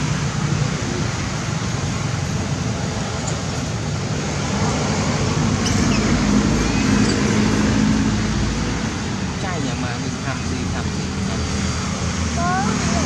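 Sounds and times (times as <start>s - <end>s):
roadside traffic noise: 0.0s - 13.0s
vehicle engine hum: 0.0s - 13.0s.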